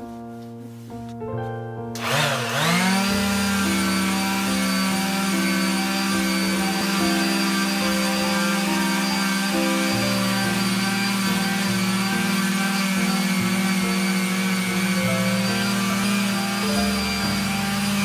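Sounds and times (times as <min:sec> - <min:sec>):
soft background music: 0:00.0 - 0:18.0
electric palm sander whining: 0:02.0 - 0:18.0.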